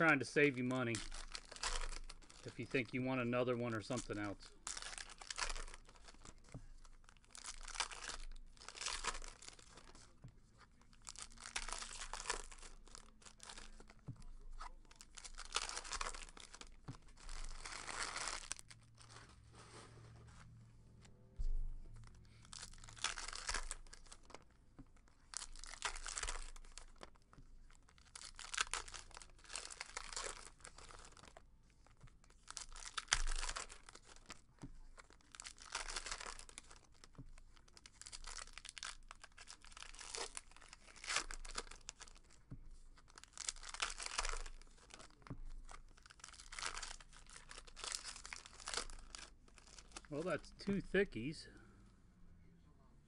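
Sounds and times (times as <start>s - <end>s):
card pack wrappers crinkling: 0.0s - 20.5s, 21.9s - 51.4s.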